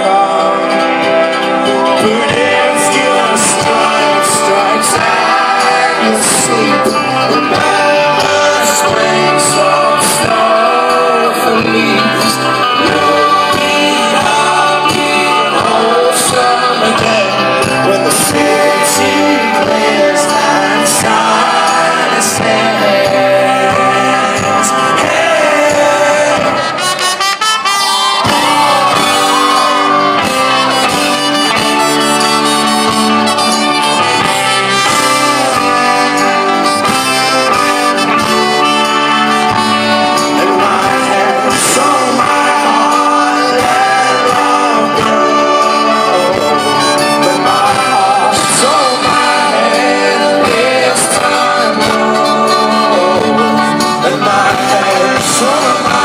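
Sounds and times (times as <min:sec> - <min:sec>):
man singing: 0:00.0 - 0:27.1, 0:28.2 - 0:56.0
brass section: 0:00.0 - 0:56.0
live folk-rock band playing: 0:00.0 - 0:56.0.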